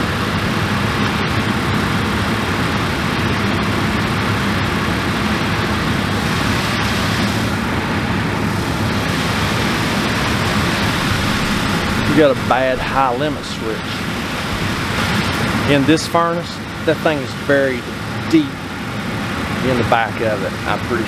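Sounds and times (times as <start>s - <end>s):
furnace blower running: 0.0s - 19.8s.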